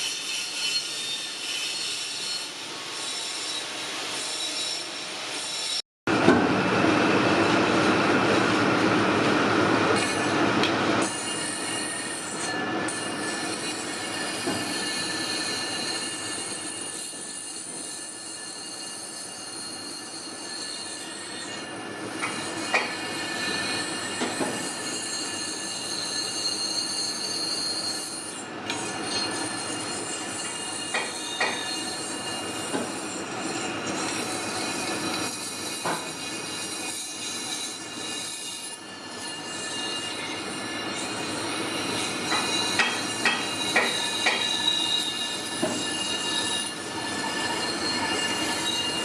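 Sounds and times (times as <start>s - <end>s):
grinding tool scraping metal: 0.0s - 5.8s, 11.0s - 49.0s
high metallic squeal: 0.0s - 5.8s, 11.0s - 49.0s.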